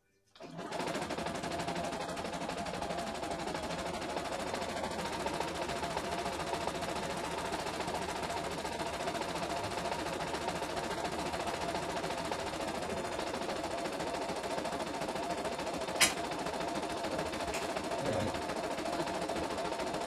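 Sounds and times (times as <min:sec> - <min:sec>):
embroidery machine stitching: 0:00.4 - 0:20.0.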